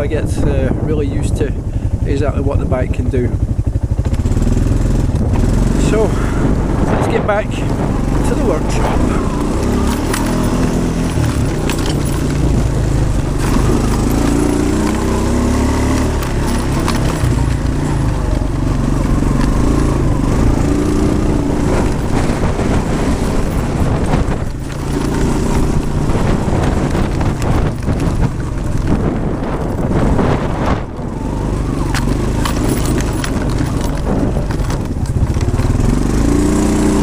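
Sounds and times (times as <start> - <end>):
knocks and rattles over rough ground: 0.0 - 37.0
quad bike engine revving: 0.0 - 37.0.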